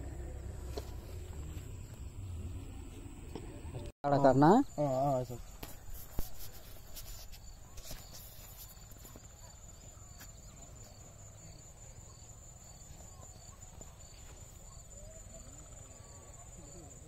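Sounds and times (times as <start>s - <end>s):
crickets trilling and chirping: 0.0s - 17.0s.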